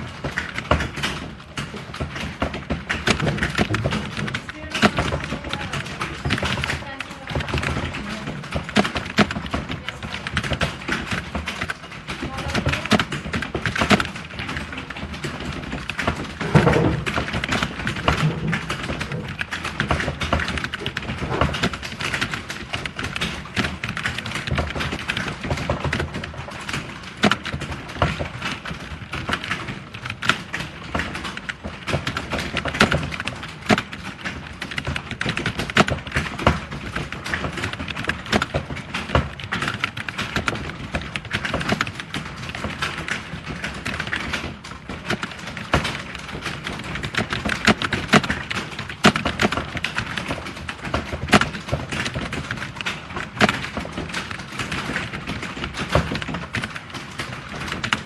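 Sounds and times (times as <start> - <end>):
typing on computer keyboard: 0.0 - 58.0.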